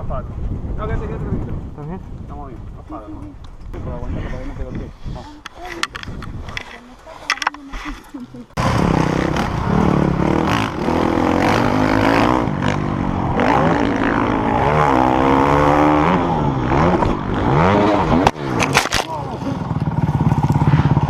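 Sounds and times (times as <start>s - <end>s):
dirt bike engines revving: 2.6s - 21.0s.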